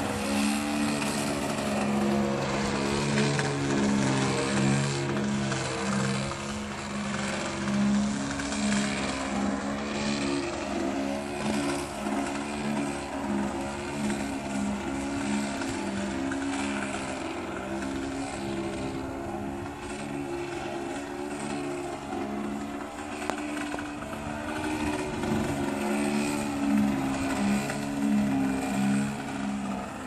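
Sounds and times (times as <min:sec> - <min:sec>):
model airplane engine revving: 0:00.0 - 0:30.0.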